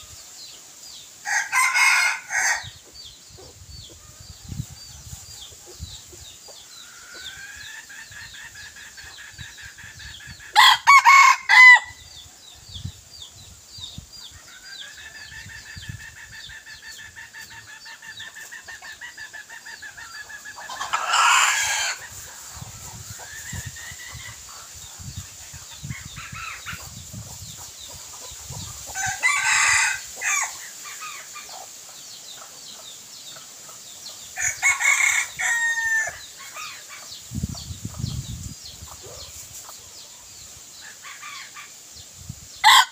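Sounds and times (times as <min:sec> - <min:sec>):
roosters crowing and clucking: 0:00.0 - 0:42.9.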